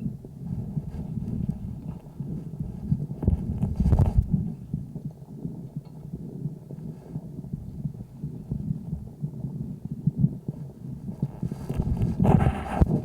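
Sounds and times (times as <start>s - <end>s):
heartbeat pulsing: 0.0s - 13.0s.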